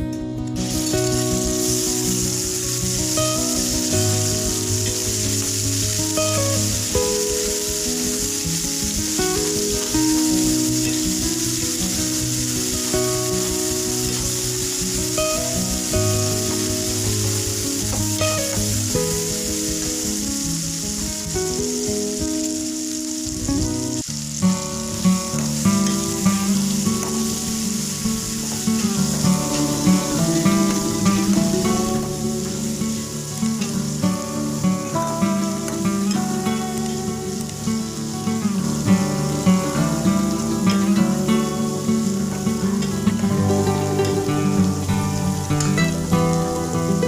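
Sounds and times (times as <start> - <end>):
background music: 0.0 - 47.0
food frying in hot oil: 0.5 - 47.0.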